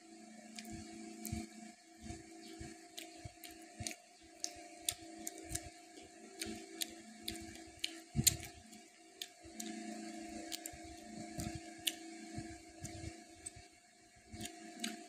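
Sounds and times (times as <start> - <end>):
steady low hum: 0.0 - 15.0
chewing with lip smacks: 0.5 - 13.7, 14.3 - 15.0.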